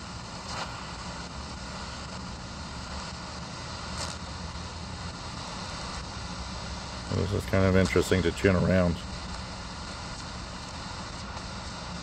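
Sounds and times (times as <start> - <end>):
shortwave radio static and hiss: 0.0 - 12.0.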